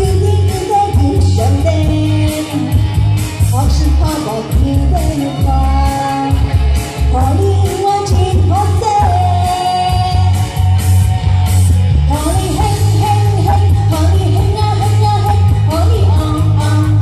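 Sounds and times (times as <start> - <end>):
woman singing into a microphone: 0.0 - 10.6, 12.0 - 17.0
backing music with bass beat: 0.0 - 17.0.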